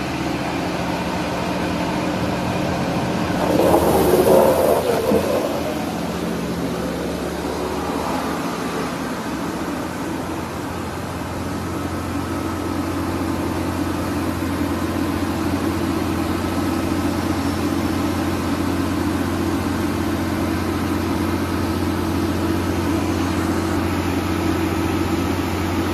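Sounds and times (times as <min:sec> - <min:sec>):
wood chipper running: 0:00.0 - 0:25.9.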